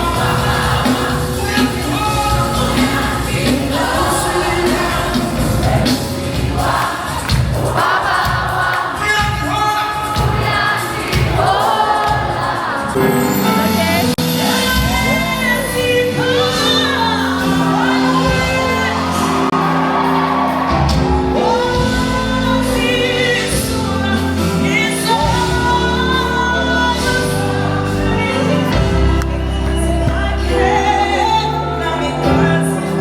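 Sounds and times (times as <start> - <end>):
bass: 0.0 - 7.6, 12.9 - 33.0
keyboard chords: 0.0 - 33.0
singers singing gospel: 0.0 - 33.0.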